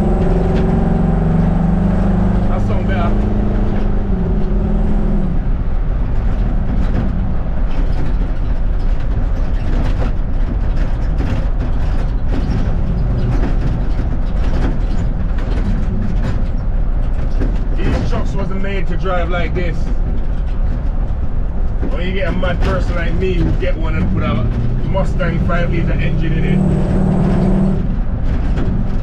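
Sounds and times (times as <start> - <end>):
road noise: 0.0 - 29.0
truck engine running: 0.0 - 29.0.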